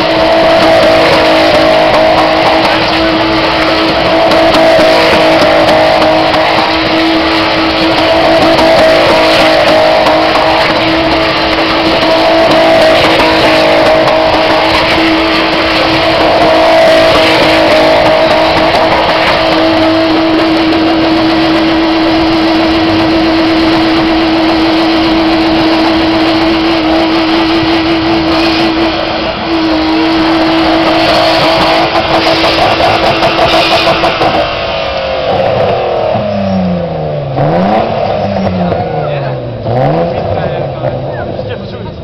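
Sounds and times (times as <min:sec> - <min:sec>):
car engine revving high: 0:00.0 - 0:42.0
spinning tyres hissing: 0:00.0 - 0:42.0.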